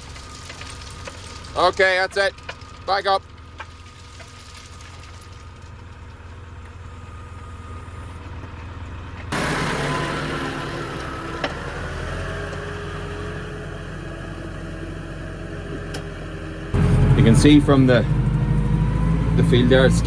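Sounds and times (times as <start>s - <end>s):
farm vehicle engine running: 0.0s - 20.0s.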